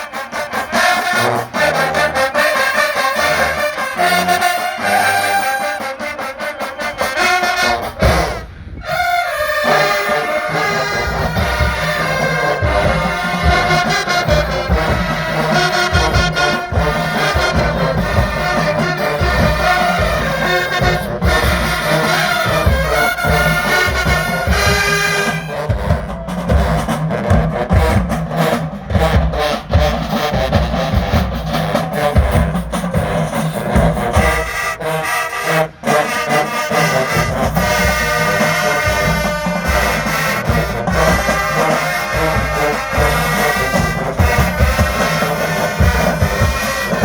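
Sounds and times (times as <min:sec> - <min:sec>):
heavy drums: 0:00.0 - 0:47.0
marching band brass: 0:00.0 - 0:47.0.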